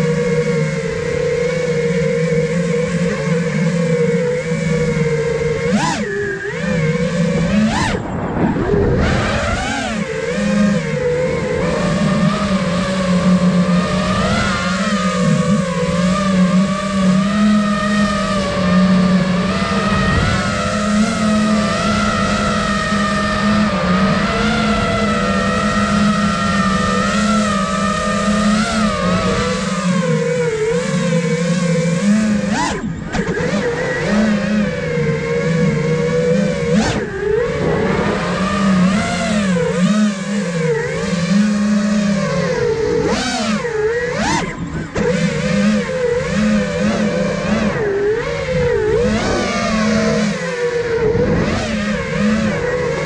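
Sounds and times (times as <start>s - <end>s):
drone motors buzzing: 0.0s - 53.0s.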